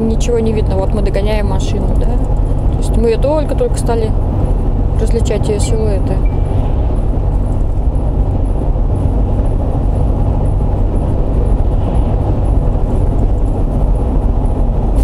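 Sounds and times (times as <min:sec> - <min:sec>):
road and engine noise in car: 0:00.0 - 0:15.0.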